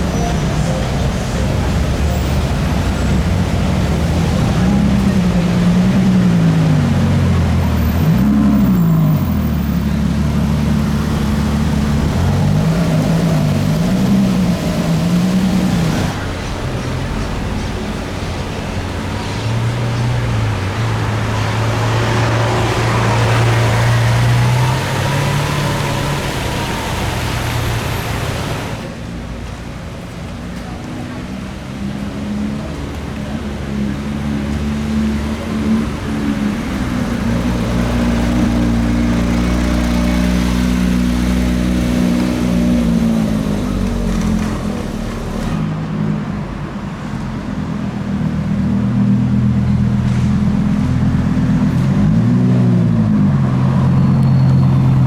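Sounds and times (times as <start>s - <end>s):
supercar engine revving: 0.8s - 16.6s, 18.8s - 29.0s, 31.5s - 55.0s.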